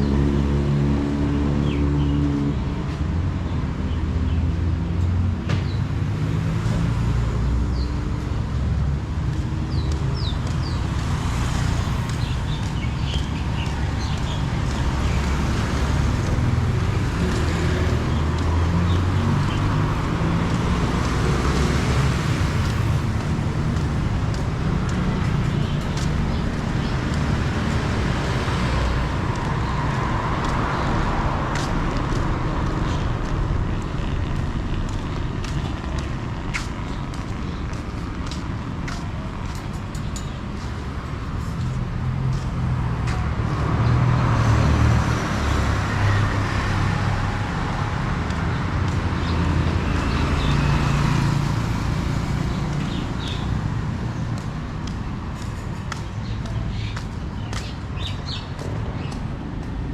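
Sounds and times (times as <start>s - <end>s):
road traffic rumble: 0.0s - 59.9s
vehicles passing close: 0.0s - 59.9s.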